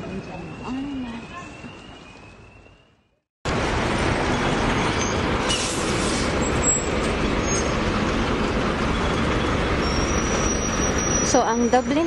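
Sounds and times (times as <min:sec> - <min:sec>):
buses and traffic passing: 0:00.0 - 0:12.0.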